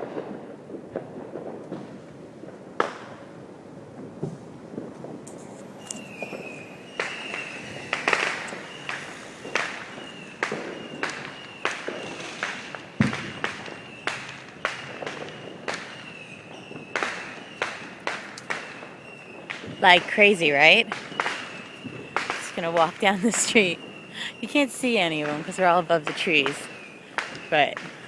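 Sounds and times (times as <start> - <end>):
fireworks bangs and pops: 0.0 - 28.0.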